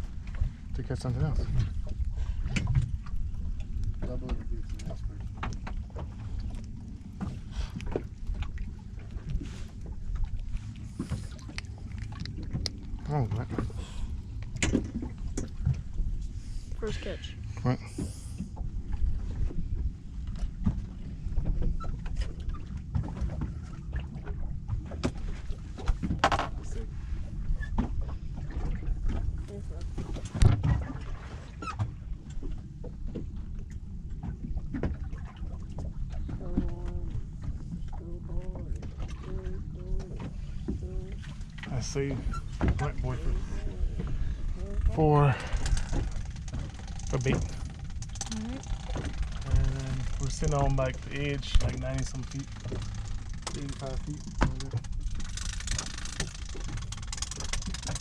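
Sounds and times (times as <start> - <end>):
small knocks in boat: 0.0 - 13.8, 14.4 - 16.3, 17.9 - 26.8, 27.5 - 43.2, 44.0 - 58.0
water slapping at boat hull: 0.0 - 16.9, 18.0 - 58.0
wind rumble on microphone: 0.0 - 58.0.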